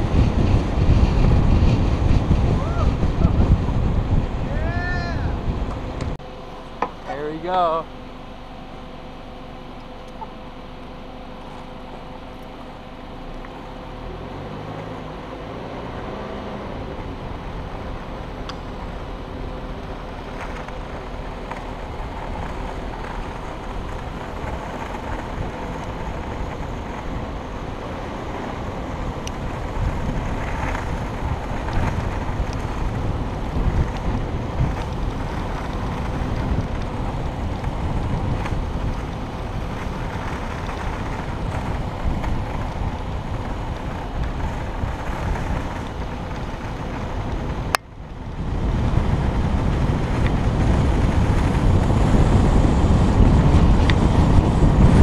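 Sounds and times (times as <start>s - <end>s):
wind rushing over microphone: 0.0s - 6.2s, 13.8s - 55.0s
road noise: 0.0s - 55.0s.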